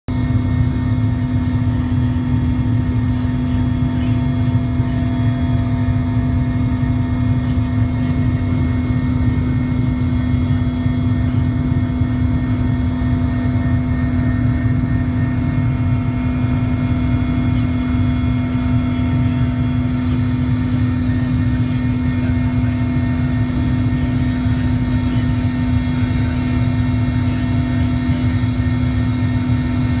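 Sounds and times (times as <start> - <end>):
helicopter cabin drone: 0.1 - 30.0.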